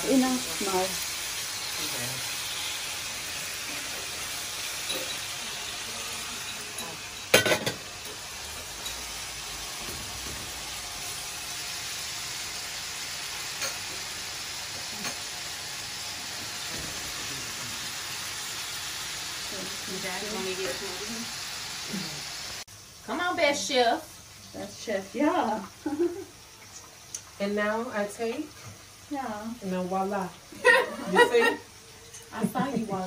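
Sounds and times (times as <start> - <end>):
meat sizzling in a skillet: 0.0 - 33.0.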